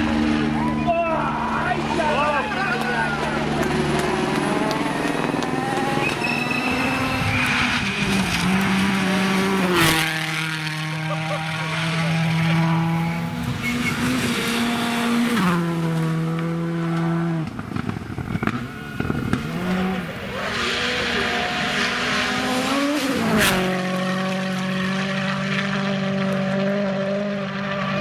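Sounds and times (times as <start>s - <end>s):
rally car engines at high revs: 0.0s - 28.0s.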